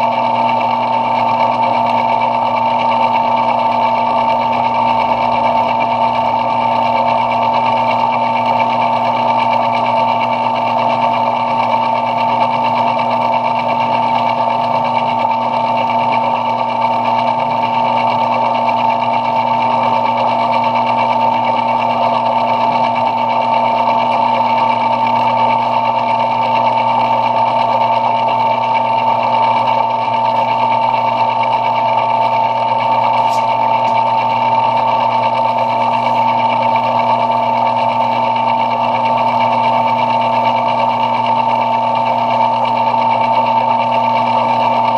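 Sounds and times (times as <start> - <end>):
metal lathe humming: 0.0 - 44.9
steady high machine tone: 0.0 - 44.9.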